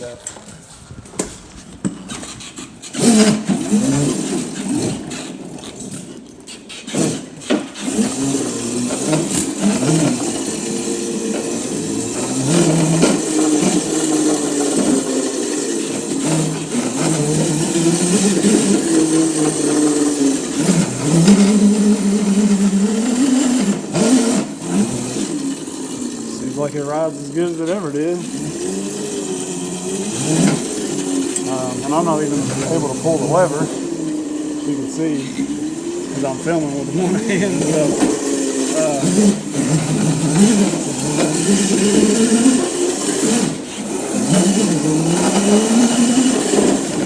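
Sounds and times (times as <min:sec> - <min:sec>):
electric kart motor whining: 0:00.0 - 0:47.0.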